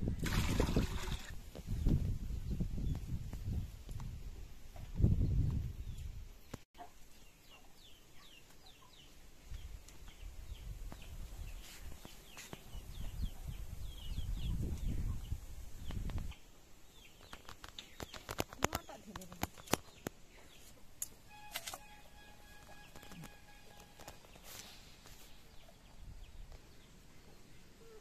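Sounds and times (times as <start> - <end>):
birds chirping: 5.1 - 28.0.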